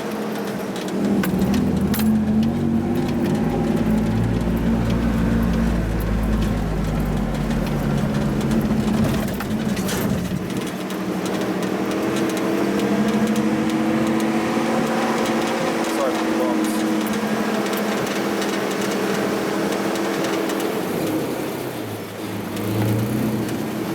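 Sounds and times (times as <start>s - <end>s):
car engine running: 0.0s - 23.9s
rattles and knocks: 0.4s - 20.7s.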